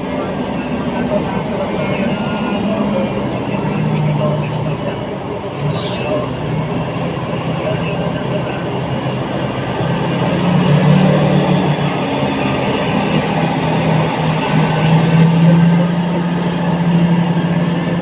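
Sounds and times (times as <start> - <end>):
large diesel engine droning: 0.0 - 18.0.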